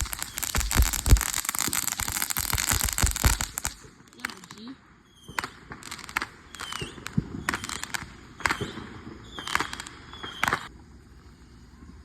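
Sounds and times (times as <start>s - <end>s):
fireworks popping and crackling: 0.0s - 10.7s.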